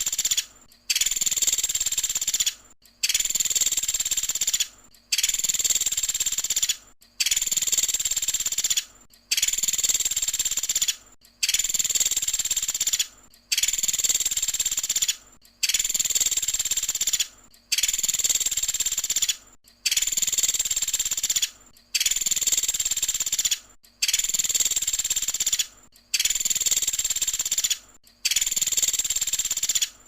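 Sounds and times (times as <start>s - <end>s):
woodpecker rattling call: 0.0s - 30.0s.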